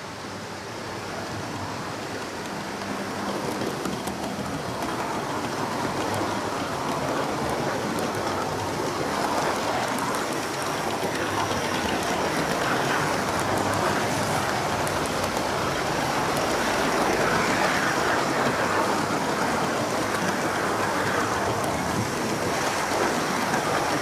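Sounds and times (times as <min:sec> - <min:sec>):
model train wheels and motor rattling: 0:00.1 - 0:24.0.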